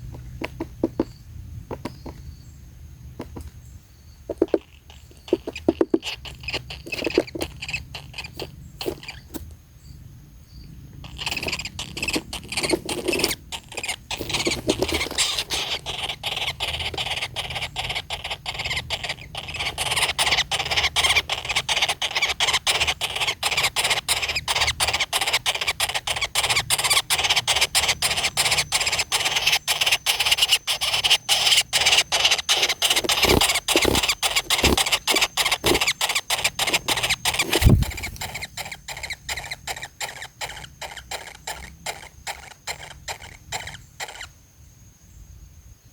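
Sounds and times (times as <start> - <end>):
nestlings squealing: 4.3 - 9.5, 11.0 - 44.4.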